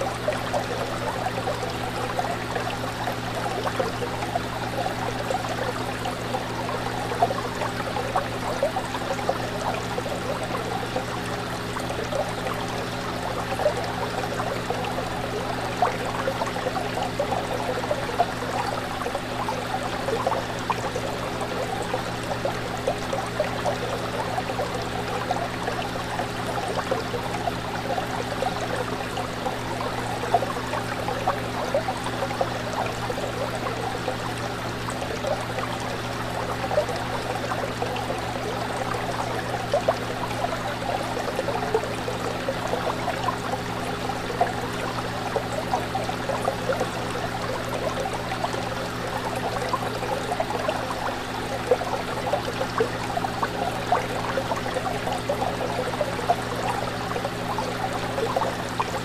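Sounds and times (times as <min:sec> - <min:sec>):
pump humming: 0:00.0 - 0:59.0
water bubbling and trickling: 0:00.0 - 0:59.0.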